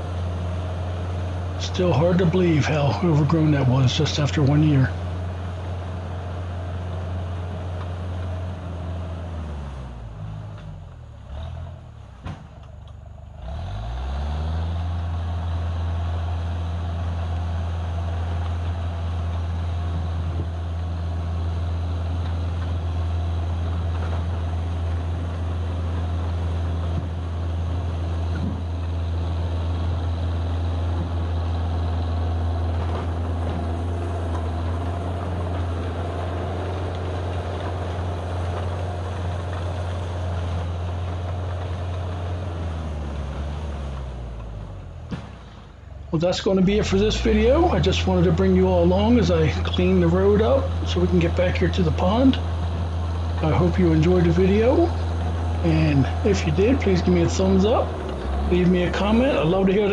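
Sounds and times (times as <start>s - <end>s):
track loader engine running: 0.0s - 59.9s.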